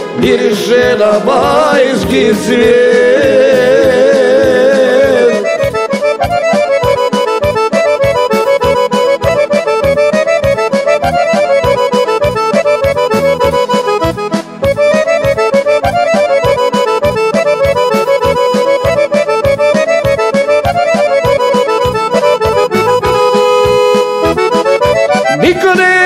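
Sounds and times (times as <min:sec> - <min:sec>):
instrumental folk-pop music: 0:00.0 - 0:26.0.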